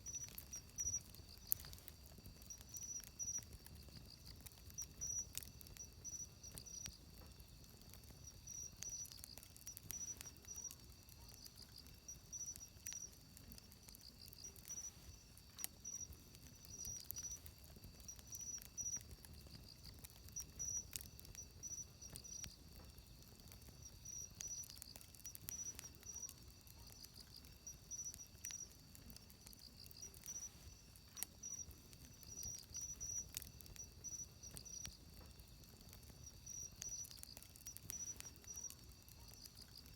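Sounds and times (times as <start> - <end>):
insects chirping: 0.0 - 39.9
wood fire crackling and popping: 0.0 - 39.9.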